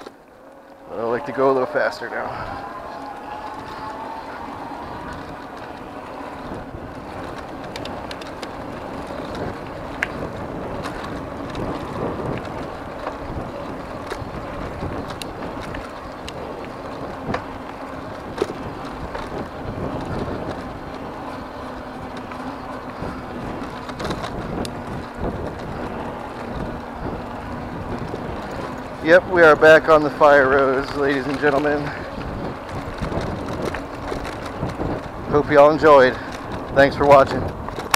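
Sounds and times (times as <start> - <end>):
stones ticking and bike rattling: 0.0 - 37.9
tyre and wind noise: 0.0 - 37.9.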